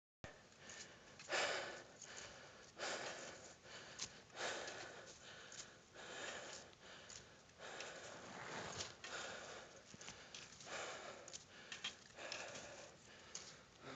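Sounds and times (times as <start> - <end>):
heavy breathing: 0.3 - 13.9.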